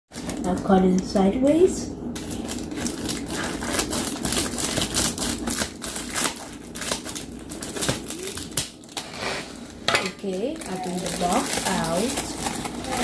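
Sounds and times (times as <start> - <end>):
plastic crinkling: 0.1 - 13.0.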